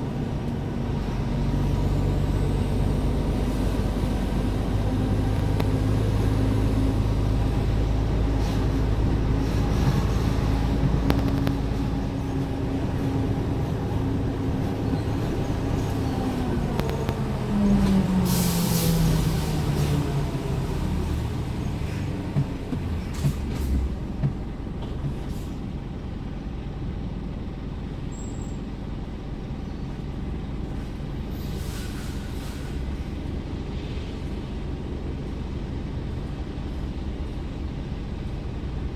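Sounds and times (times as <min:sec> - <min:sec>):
truck diesel engine running: 0:00.0 - 0:31.7.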